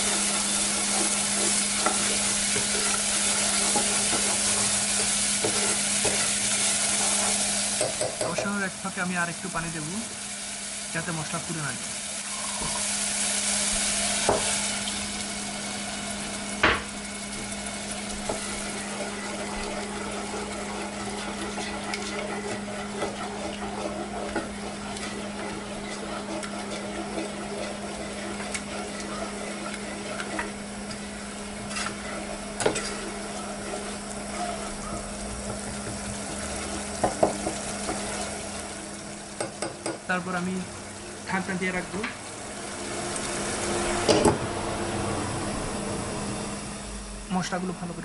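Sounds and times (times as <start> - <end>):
paste sizzling in a saucepan: 0.0 - 48.0.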